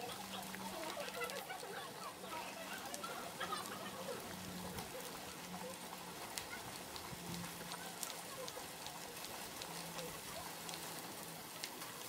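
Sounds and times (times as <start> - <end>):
bicycle tyres hissing on wet trail: 0.0 - 12.0.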